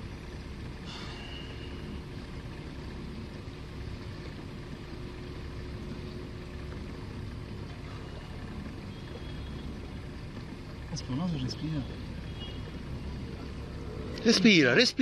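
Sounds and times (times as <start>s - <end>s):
boat engine rumbling: 0.0s - 15.0s
faint constant hum: 0.0s - 15.0s.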